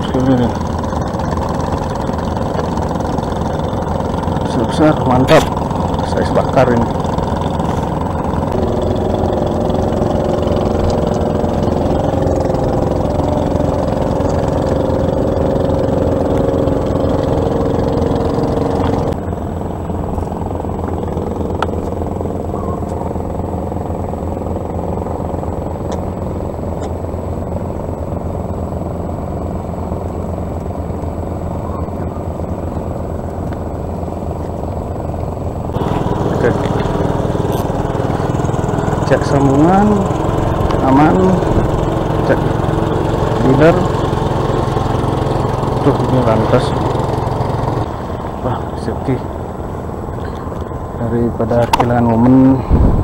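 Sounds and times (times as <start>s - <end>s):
engine running with low hum: 0.0s - 53.0s.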